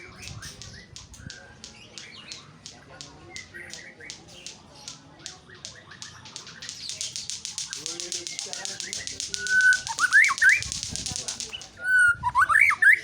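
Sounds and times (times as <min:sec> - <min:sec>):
small birds chirping: 0:00.0 - 0:13.0
sharp clicks: 0:00.1 - 0:11.8.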